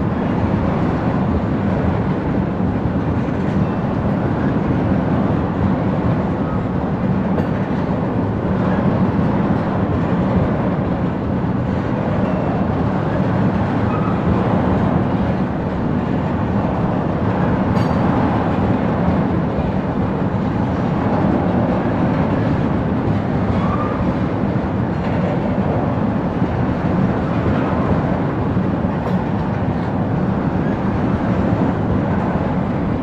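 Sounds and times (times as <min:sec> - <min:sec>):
freight train rolling past: 0:00.0 - 0:33.0
steel wheels on rail: 0:00.0 - 0:33.0.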